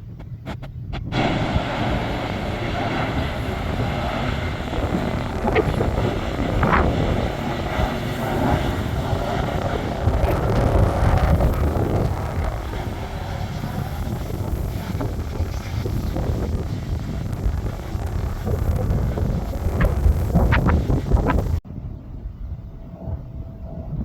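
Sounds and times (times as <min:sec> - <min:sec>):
airliner engine rush: 0:00.0 - 0:23.4.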